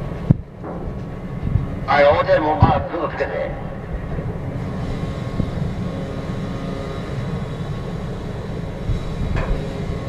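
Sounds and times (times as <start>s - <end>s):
faint constant hum: 0.0s - 10.0s
ship machinery drone: 0.0s - 10.0s.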